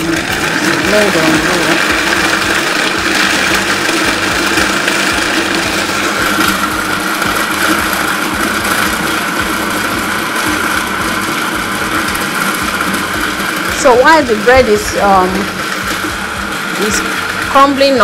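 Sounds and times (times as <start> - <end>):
food processor chopping bread: 0.0 - 18.0.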